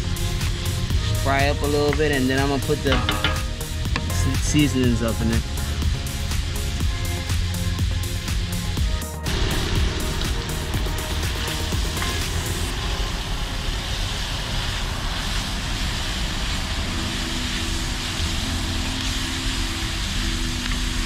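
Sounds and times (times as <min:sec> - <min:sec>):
low rumble: 0:00.0 - 0:17.0
sausage sizzling in a pan: 0:00.0 - 0:21.0.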